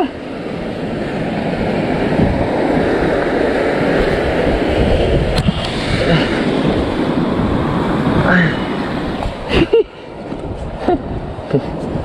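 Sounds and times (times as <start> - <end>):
surf breaking against rocks: 0.3 - 10.5.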